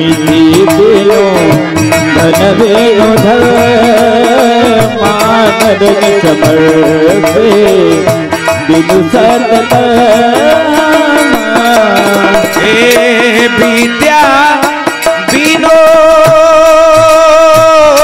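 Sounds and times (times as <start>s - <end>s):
gliding melody line: 0.0s - 16.6s
dholak drum: 0.0s - 18.0s.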